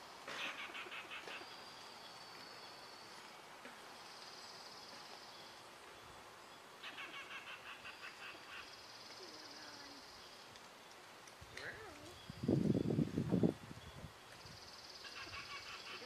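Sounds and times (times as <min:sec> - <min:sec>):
faint birds calling: 0:00.3 - 0:12.6, 0:14.0 - 0:16.0.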